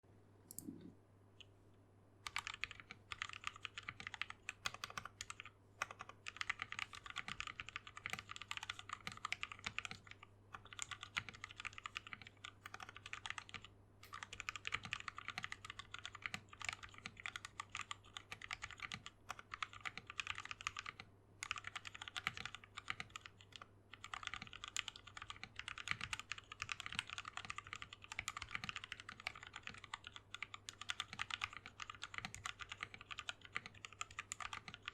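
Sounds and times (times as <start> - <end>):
mechanical keyboard typing: 2.2 - 34.9.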